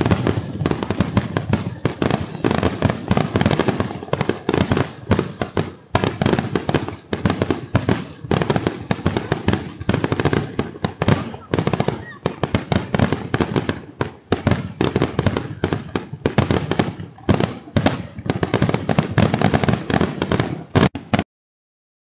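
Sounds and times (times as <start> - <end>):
fireworks bursting: 0.0 - 21.2.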